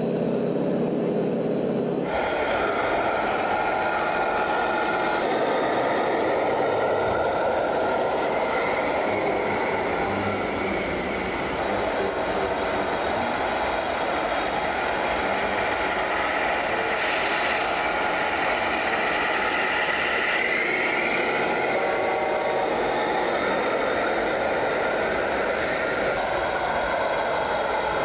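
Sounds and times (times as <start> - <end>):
vehicle running noise: 0.0 - 28.0
whining tones: 1.6 - 28.0.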